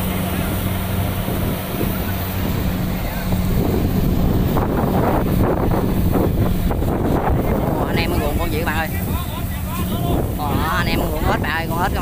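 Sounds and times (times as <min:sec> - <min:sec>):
combine harvester engine humming: 0:00.0 - 0:12.0
wind noise on microphone: 0:00.0 - 0:12.0.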